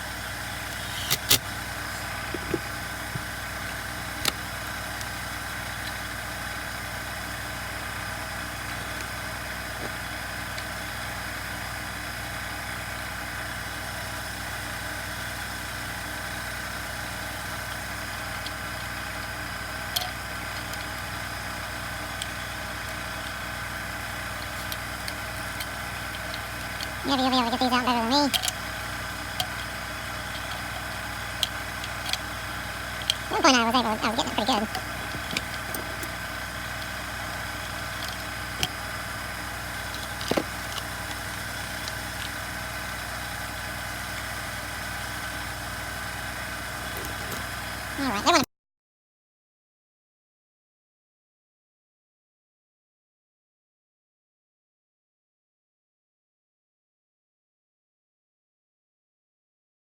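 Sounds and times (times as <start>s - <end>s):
mechanical hum: 0.0s - 48.4s.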